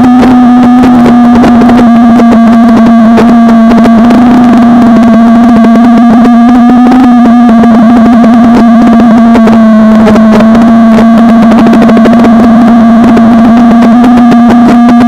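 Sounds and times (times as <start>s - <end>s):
crackle: 0.0s - 15.0s
quadcopter distorted buzz: 0.0s - 15.0s.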